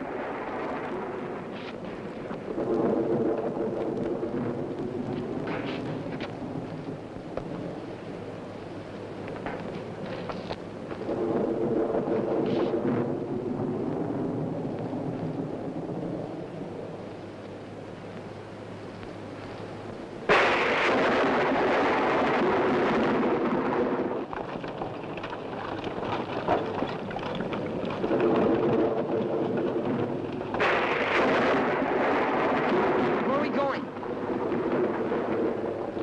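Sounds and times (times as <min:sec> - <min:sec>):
thunderclap: 0:00.0 - 0:08.3, 0:09.0 - 0:17.0, 0:20.2 - 0:36.0
rain: 0:00.0 - 0:36.0
wind: 0:00.0 - 0:36.0.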